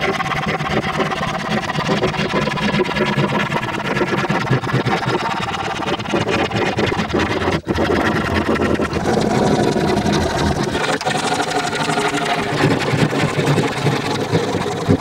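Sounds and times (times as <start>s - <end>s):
hand saw cutting wood: 0.0s - 15.0s.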